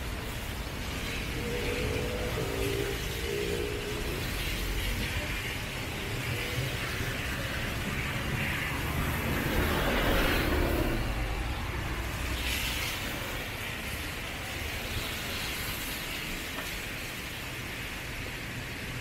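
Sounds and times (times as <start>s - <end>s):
car passing on wet road: 0.0s - 19.0s
steady traffic: 0.0s - 19.0s.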